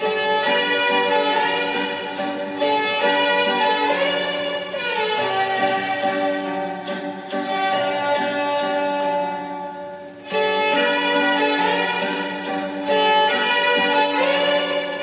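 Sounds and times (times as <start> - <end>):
music with long held notes: 0.0 - 15.0.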